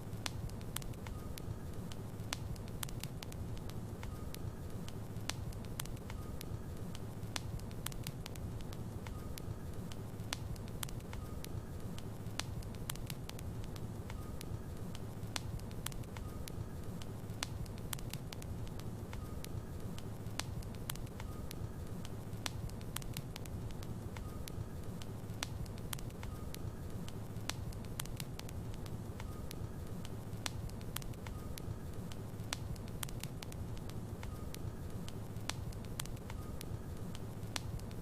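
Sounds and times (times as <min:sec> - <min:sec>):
wood crackling and popping: 0:00.0 - 0:38.0.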